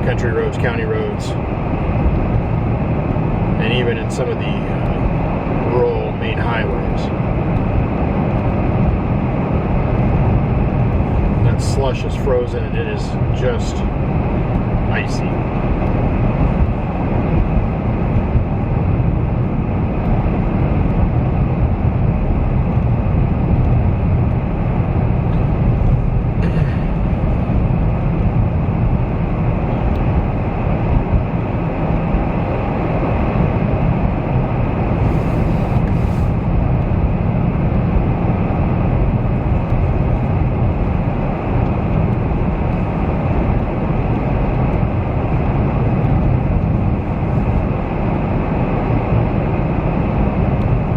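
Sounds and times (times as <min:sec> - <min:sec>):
car driving rumble inside cabin: 0:00.0 - 0:50.9.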